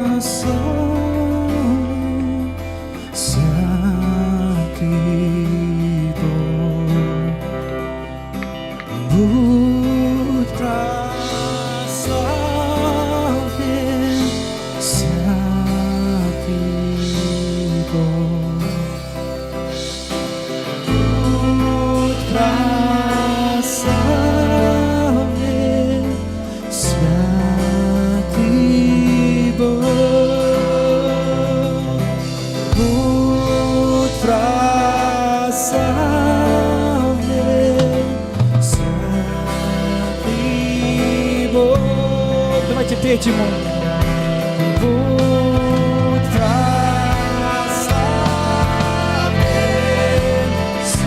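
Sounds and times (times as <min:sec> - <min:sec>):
sustained bass chords: 0:00.0 - 0:51.0
person singing long notes: 0:09.0 - 0:51.0.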